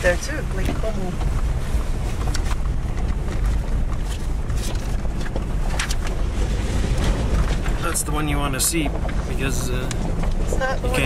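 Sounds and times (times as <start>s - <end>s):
low rumble of vehicle driving: 0.0s - 11.0s.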